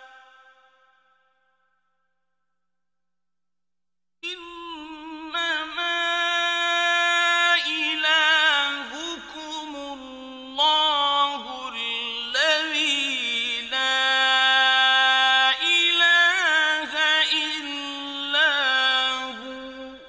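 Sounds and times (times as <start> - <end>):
man reciting melodically: 0.0 - 0.8, 4.2 - 20.0.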